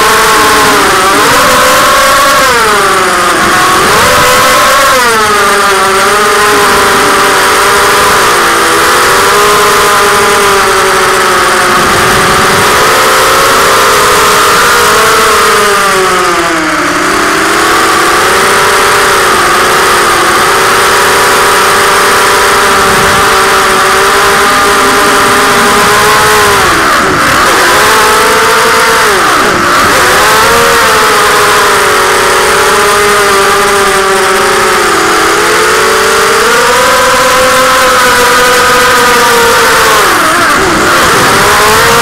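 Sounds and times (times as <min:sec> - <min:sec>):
drone propellers whining: 0:00.0 - 0:42.0.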